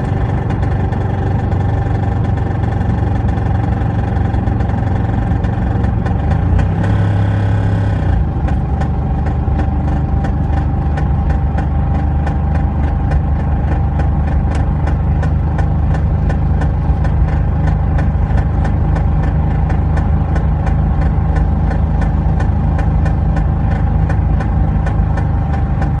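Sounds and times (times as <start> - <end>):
car engine droning: 0.0 - 26.0
rapid regular engine ticking: 0.0 - 26.0.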